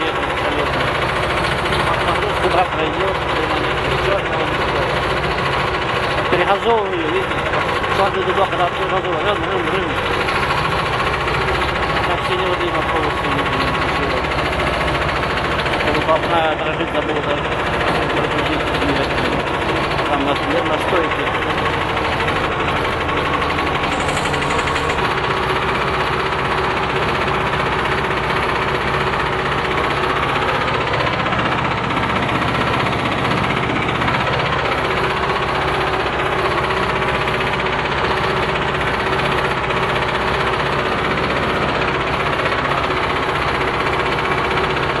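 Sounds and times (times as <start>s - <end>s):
tractor diesel engine under load: 0.0s - 45.0s.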